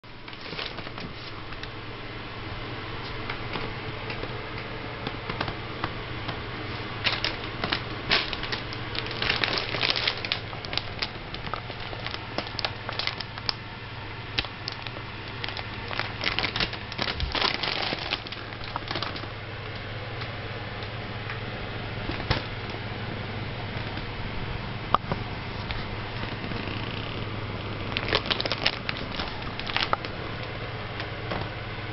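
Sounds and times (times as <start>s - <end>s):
low hum: 0.0s - 31.9s.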